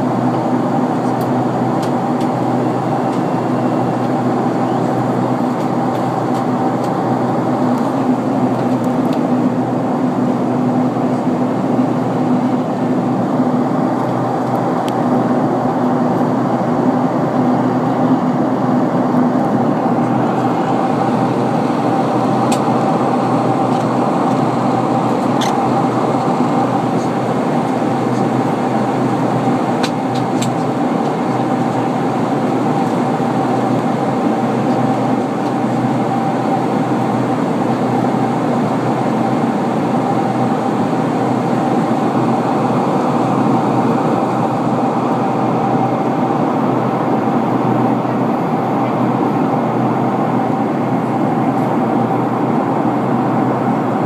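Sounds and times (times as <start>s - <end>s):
airplane cabin engine rush and whine: 0.0s - 54.0s.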